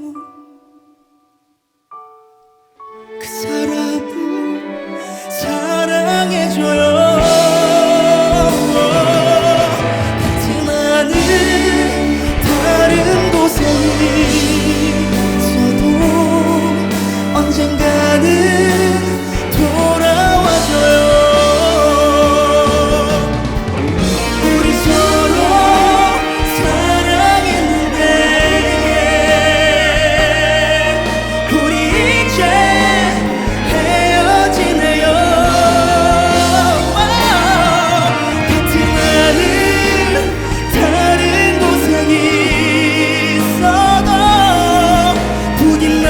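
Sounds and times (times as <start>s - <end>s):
instrumental accompaniment: 1.9s - 46.0s
man singing a ballad: 3.2s - 46.0s.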